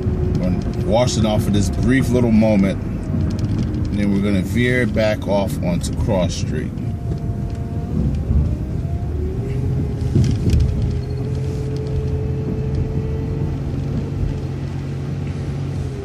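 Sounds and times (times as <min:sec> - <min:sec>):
bus engine running with whine: 0:00.0 - 0:16.0.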